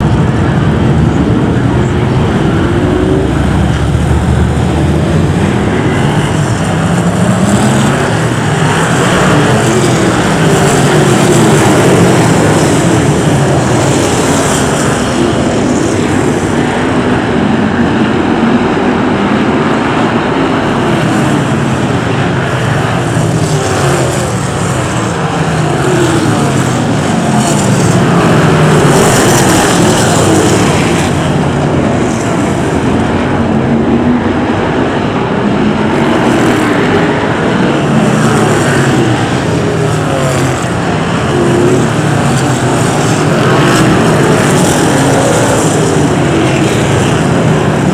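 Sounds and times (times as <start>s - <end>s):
stock car engines racing: 0.0s - 47.9s.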